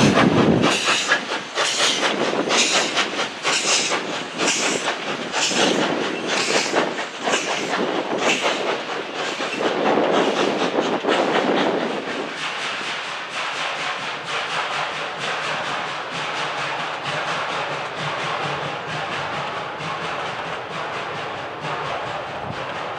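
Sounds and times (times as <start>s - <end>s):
steam locomotive chuffing: 0.0s - 22.9s
train wheels clicking over rail joints: 0.0s - 22.9s.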